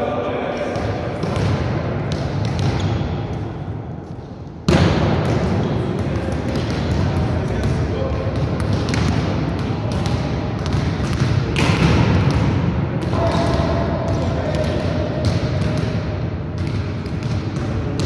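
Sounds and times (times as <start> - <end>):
volleyballs hit and bouncing: 0.6 - 3.8, 4.4 - 18.0.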